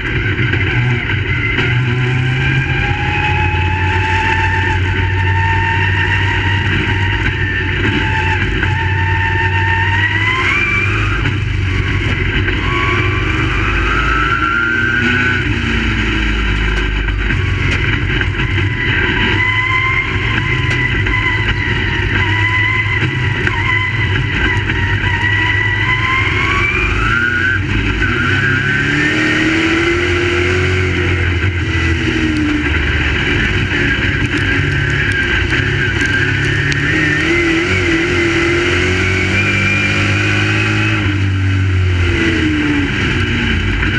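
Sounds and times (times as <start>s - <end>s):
race car engines revving: 0.0s - 43.9s.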